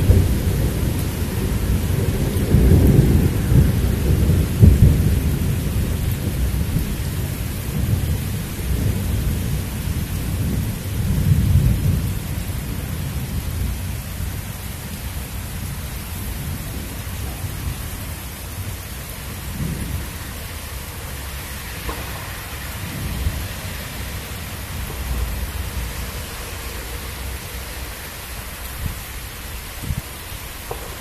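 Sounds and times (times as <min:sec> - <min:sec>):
rain hissing: 0:00.0 - 0:31.0
thunder rumbling: 0:00.0 - 0:31.0.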